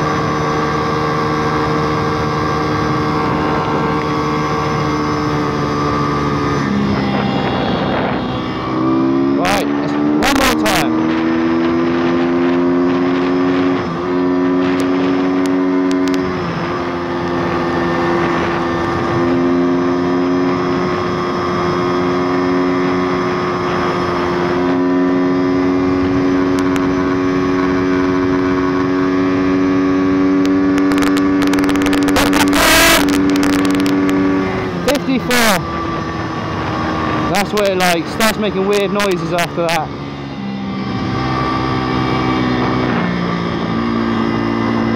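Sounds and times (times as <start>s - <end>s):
motorcycle engine at high revs: 0.0s - 44.9s
wind noise: 0.0s - 44.9s.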